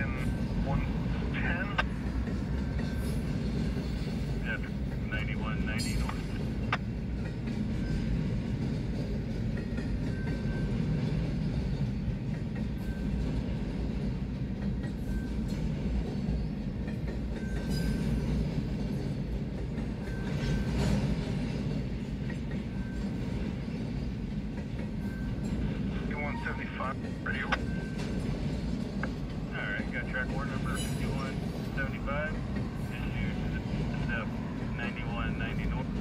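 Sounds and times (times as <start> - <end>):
freight train wheels rumbling: 0.0 - 36.0
wheels clacking on rails: 0.0 - 36.0.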